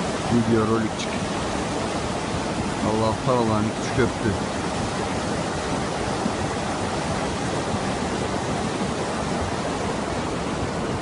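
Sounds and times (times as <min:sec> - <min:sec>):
mudflow rushing: 0:00.0 - 0:11.0.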